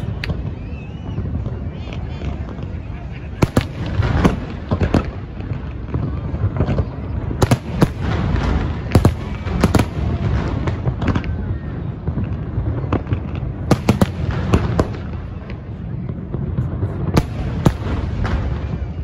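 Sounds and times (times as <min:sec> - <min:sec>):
firework bangs: 0:00.0 - 0:19.0
low rumble and crackle: 0:00.0 - 0:19.0.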